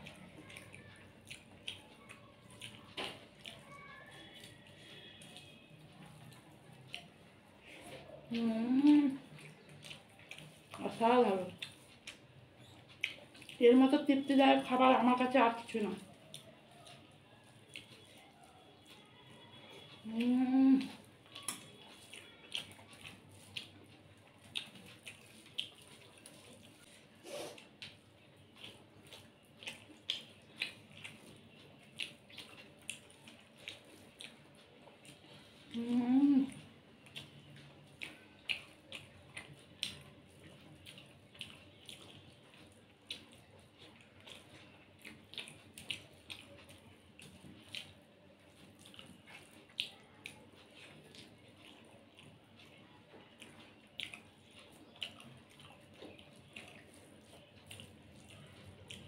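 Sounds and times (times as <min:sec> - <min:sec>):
wet chewing clicks: 0:00.0 - 0:59.0.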